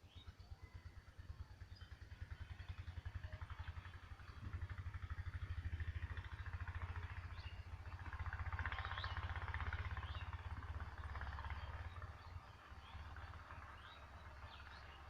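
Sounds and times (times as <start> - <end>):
engine puttering: 0.0 - 15.0
faint bird chirps: 0.0 - 15.0.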